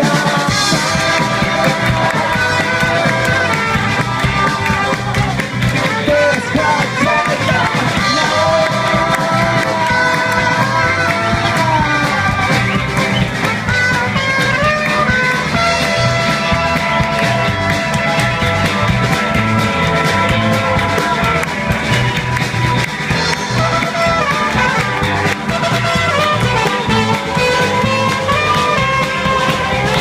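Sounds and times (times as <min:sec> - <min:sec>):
rock band playing: 0:00.0 - 0:30.0
steady drum beat: 0:00.0 - 0:30.0.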